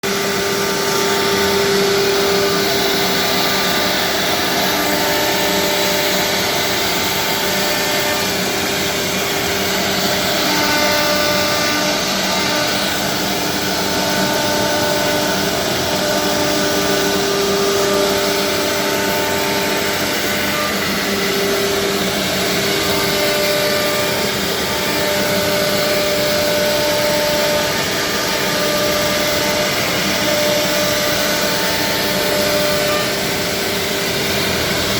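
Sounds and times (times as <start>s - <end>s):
wood router motor whine: 0.0s - 34.9s.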